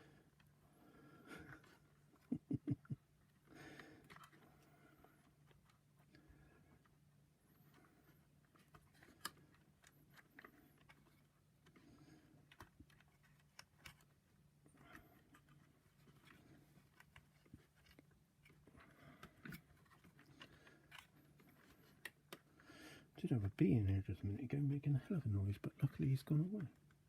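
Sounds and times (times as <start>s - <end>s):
faint low hum: 0.0s - 27.0s
wires and plastic parts rustling: 0.0s - 27.0s.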